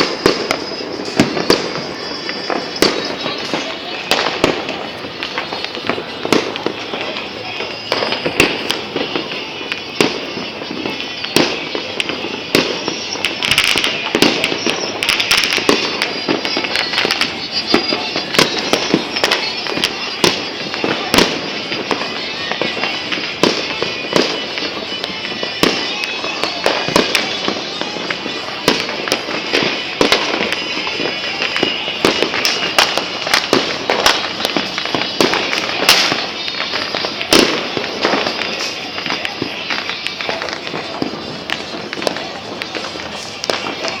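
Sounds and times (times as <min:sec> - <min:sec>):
firecracker crackle: 0:00.0 - 0:44.0
firework bangs: 0:00.0 - 0:44.0.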